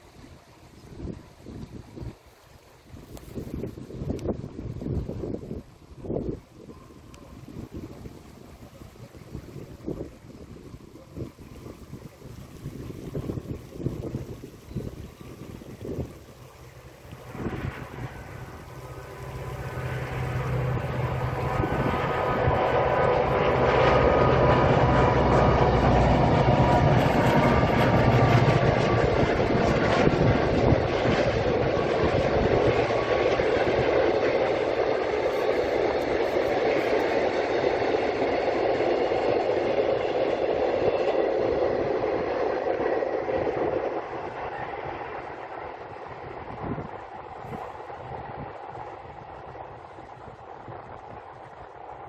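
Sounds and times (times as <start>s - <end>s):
diesel locomotive engine hum: 0.0s - 52.0s
train wagons rolling on track: 0.0s - 52.0s.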